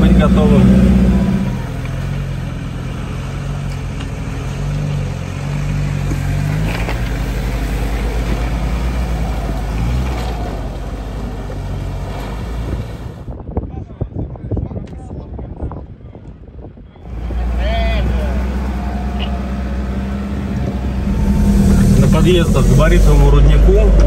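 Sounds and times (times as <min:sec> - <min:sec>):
off-road vehicle engine running: 0:00.0 - 0:13.3, 0:17.0 - 0:24.0.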